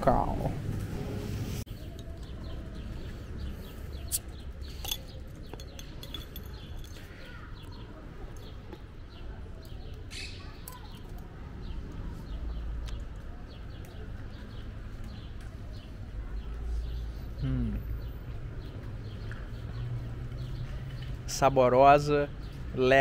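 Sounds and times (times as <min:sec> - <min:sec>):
low street hum: 0:00.0 - 0:23.0
birds chirping: 0:01.6 - 0:23.0.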